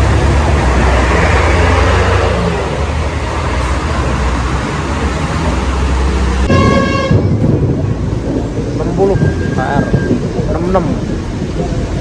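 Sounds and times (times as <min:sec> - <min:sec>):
heavy rain: 0:00.0 - 0:12.0
low engine rumble: 0:00.0 - 0:12.0
wet tyre noise: 0:00.0 - 0:12.0.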